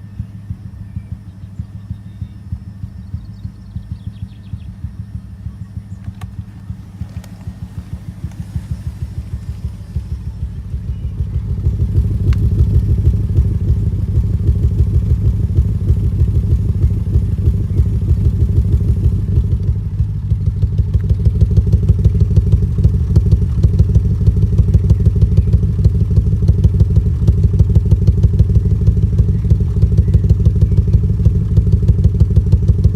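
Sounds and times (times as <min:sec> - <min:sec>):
car engine idling unevenly: 0:00.0 - 0:32.9.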